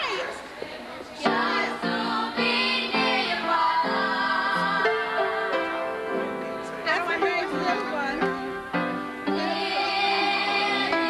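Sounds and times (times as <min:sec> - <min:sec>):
gospel singing: 0:00.0 - 0:11.0.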